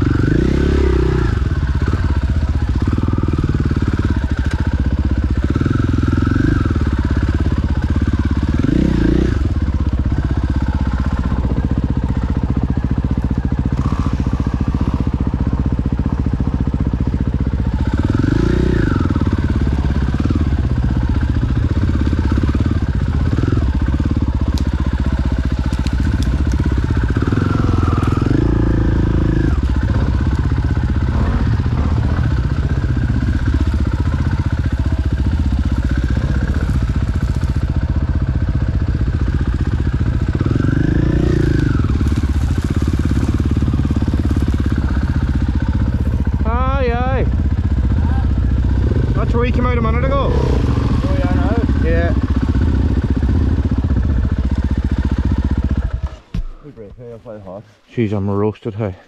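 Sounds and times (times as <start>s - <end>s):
motorcycle engine revving: 0.0s - 57.5s.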